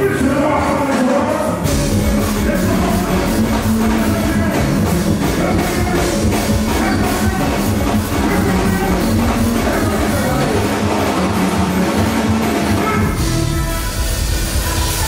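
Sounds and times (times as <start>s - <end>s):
carnival band music: 0.0s - 15.0s
deep bass: 1.6s - 15.0s.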